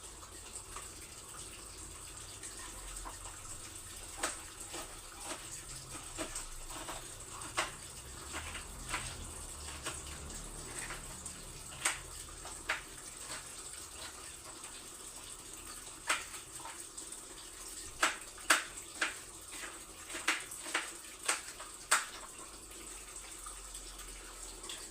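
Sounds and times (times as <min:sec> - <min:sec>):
water running from a tap: 0:00.0 - 0:24.9.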